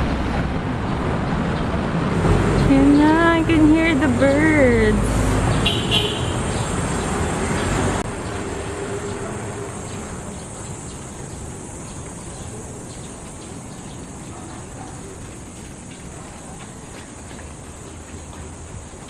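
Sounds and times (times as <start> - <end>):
low traffic hum: 0.0 - 19.0.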